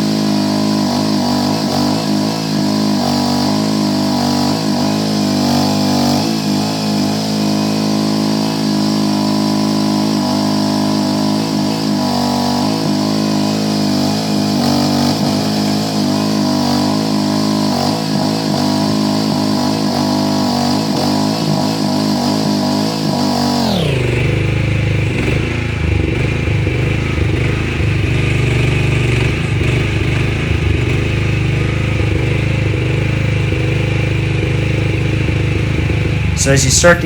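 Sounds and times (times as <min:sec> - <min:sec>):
mini excavator engine running: 0:00.0 - 0:37.0.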